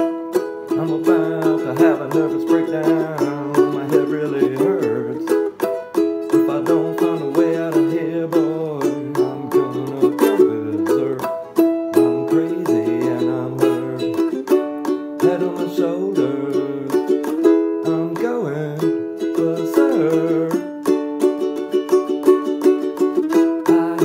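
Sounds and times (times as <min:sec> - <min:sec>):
ukulele strummed fast: 0:00.0 - 0:24.0.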